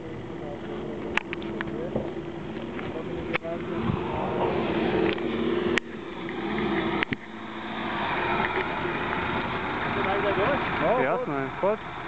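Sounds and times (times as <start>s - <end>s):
vehicle engine climbing: 0.0s - 12.0s.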